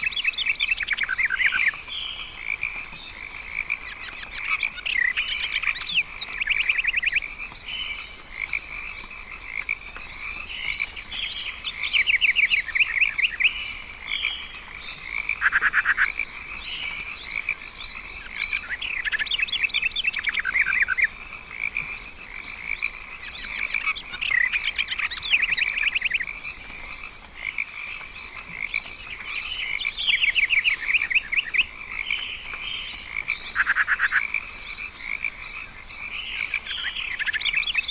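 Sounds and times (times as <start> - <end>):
frogs calling in rapid trills: 0.0 - 37.9.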